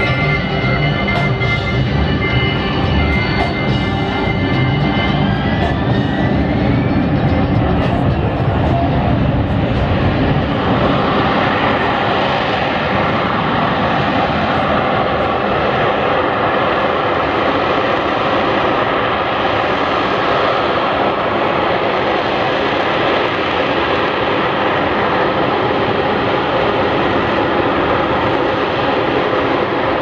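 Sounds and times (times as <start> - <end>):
loud jet engine noise: 0.0 - 30.0.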